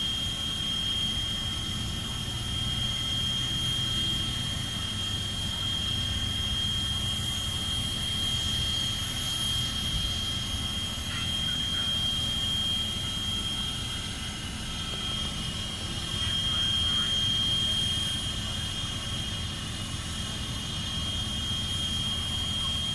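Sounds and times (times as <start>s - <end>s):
high-pitched whine: 0.0s - 22.9s.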